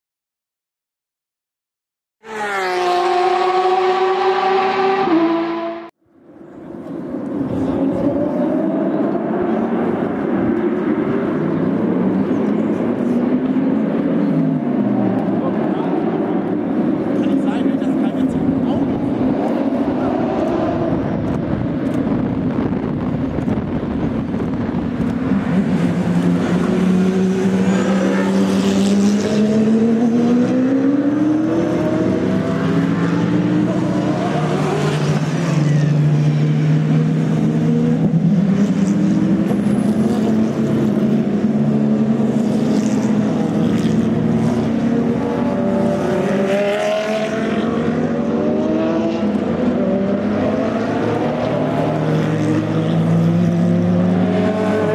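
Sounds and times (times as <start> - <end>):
racing car engines accelerating: 2.2 - 6.0, 6.6 - 54.9.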